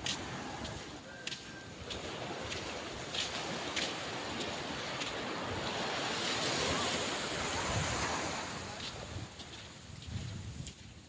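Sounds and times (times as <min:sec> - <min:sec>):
surf washing on sandy beach: 0:00.0 - 0:11.0.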